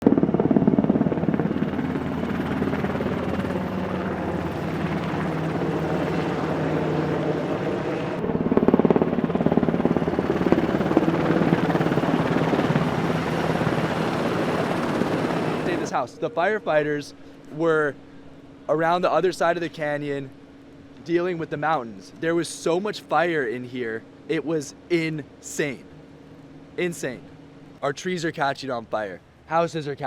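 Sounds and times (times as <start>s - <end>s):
helicopter engine and rotor chop: 0.0s - 30.0s.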